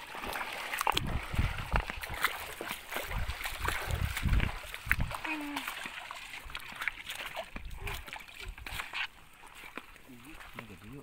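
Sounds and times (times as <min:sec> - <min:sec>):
river water running and splashing: 0:00.0 - 0:11.0.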